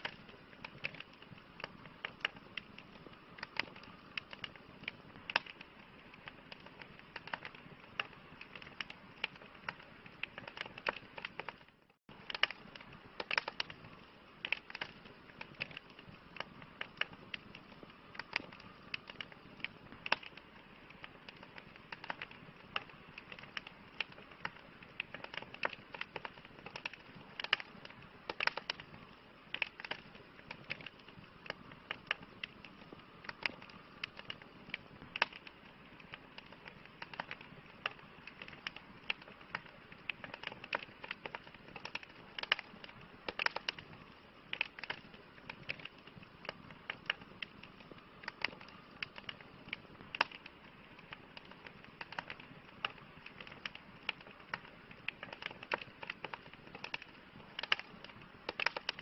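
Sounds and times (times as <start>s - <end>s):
campfire crackling: 0.0s - 59.0s
hiss of burning wood: 0.0s - 59.0s.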